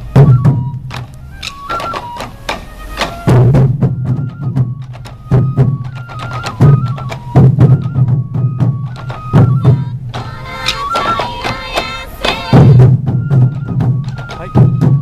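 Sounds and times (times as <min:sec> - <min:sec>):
bamboo flute melody: 0:00.0 - 0:15.0
taiko drums: 0:00.0 - 0:15.0.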